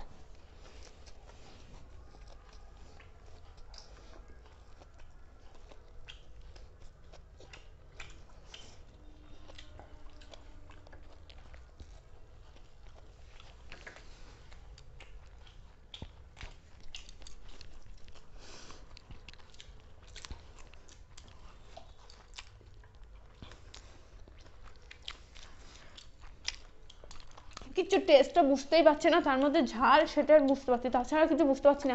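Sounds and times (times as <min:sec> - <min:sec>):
chewing and crunching food: 0:00.0 - 0:31.9
low steady hum: 0:00.0 - 0:31.9.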